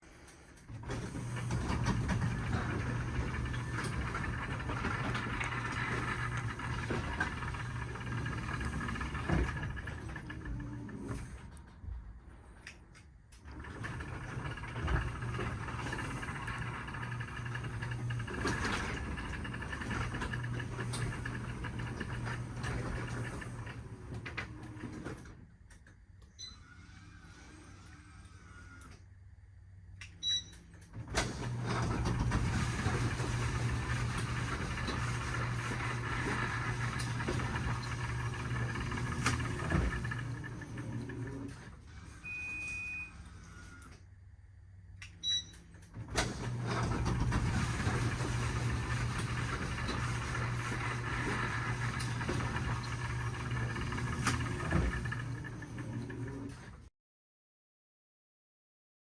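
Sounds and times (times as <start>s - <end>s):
motor mechanism humming and clicking: 0.0s - 42.3s, 43.2s - 56.9s.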